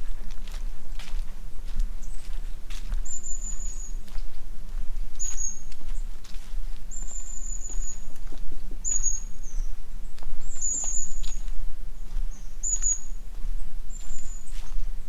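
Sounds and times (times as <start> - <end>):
footsteps on forest trail: 0.0 - 15.0.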